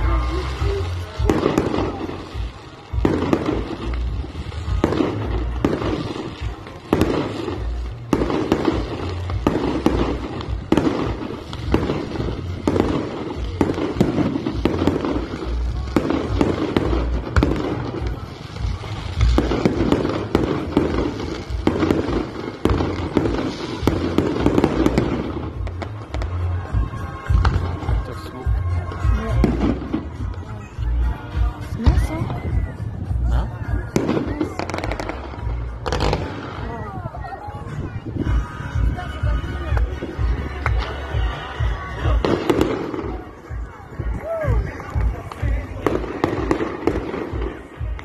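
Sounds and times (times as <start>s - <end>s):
fireworks bursting with bangs and crackles: 0.0s - 48.0s.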